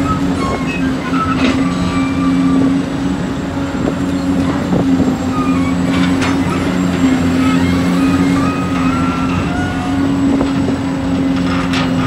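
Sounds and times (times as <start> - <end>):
high-pitched metal squeaks: 0.0 - 3.0, 4.2 - 12.0
diesel engine running: 0.0 - 12.0.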